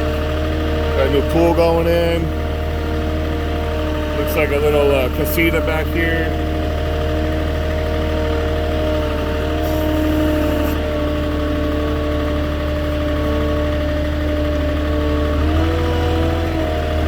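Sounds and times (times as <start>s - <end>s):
forklift engine hum: 0.0s - 17.0s.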